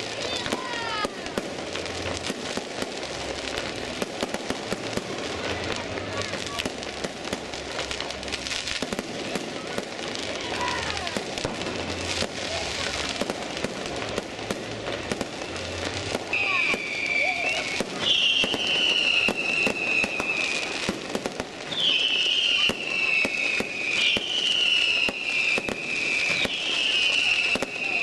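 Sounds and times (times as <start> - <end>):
fireworks cracking and banging: 0.0 - 28.0
whistling fireworks: 0.0 - 28.0.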